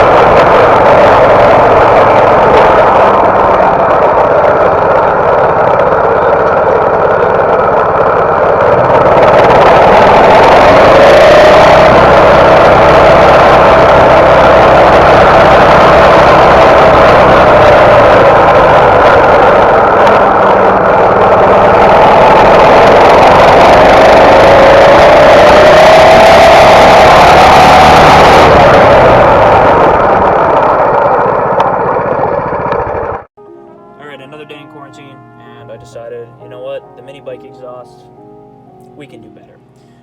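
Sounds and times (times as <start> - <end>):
small engine running loudly: 0.0 - 38.3.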